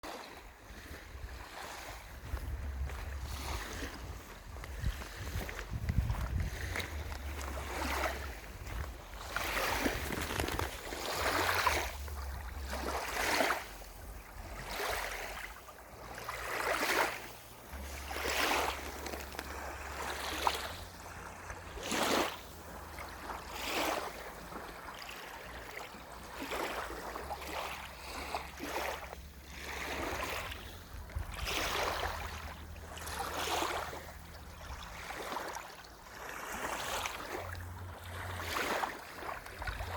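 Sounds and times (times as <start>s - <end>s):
water splashing in surges: 0.0s - 39.9s.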